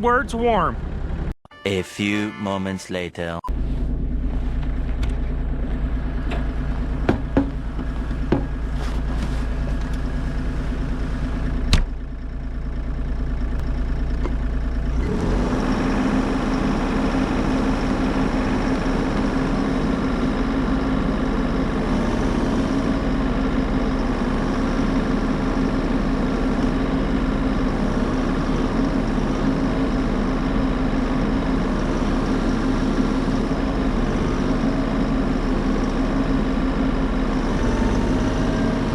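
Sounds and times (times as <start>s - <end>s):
diesel engine idling: 0.0s - 1.3s, 3.6s - 38.9s.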